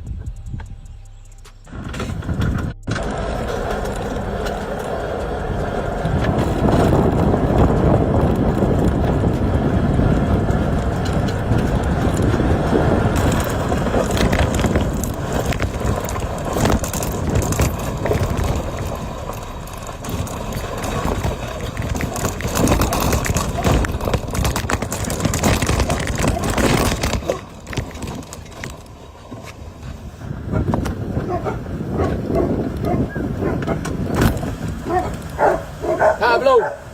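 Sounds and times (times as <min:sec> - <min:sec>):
vehicle road noise: 0:00.0 - 0:36.9
knocks and rattles: 0:01.4 - 0:30.0, 0:30.6 - 0:36.1.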